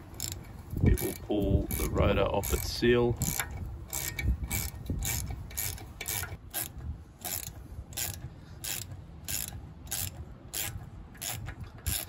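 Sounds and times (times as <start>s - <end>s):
socket ratchet clicking: 0.0s - 12.0s.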